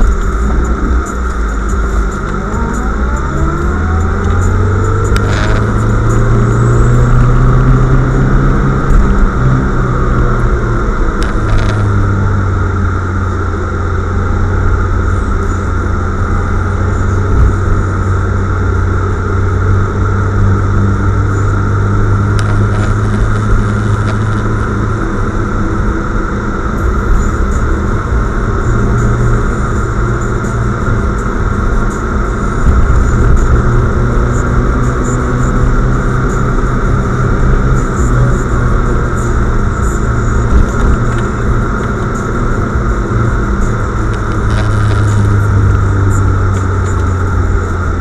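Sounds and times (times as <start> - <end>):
car engine drone: 0.0 - 48.0.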